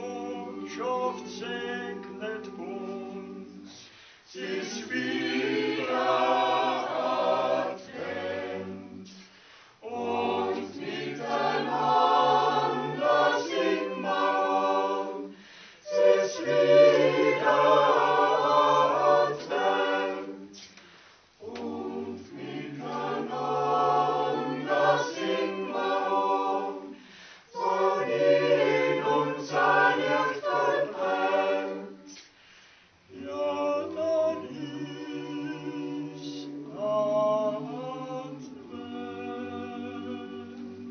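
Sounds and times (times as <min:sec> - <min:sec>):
choir singing a cappella: 0:00.0 - 0:40.9.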